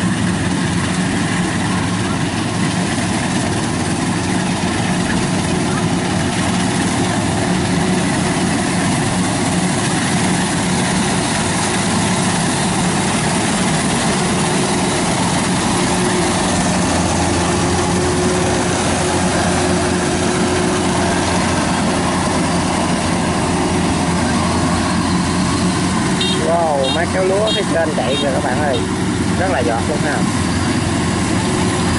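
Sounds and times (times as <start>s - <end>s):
combine harvester engine running: 0.0s - 31.9s.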